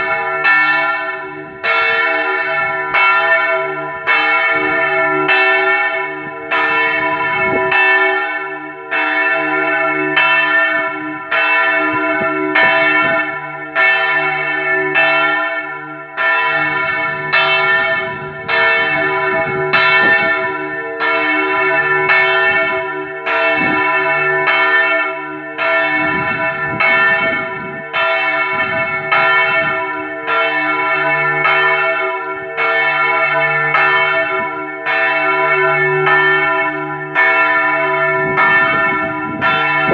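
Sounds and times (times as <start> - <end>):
swinging church bell ringing: 0.0 - 39.9.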